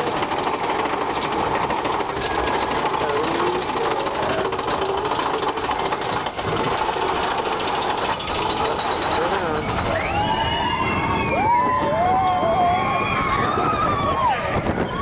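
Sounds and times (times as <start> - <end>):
roller coaster wheels clattering: 0.0 - 15.0.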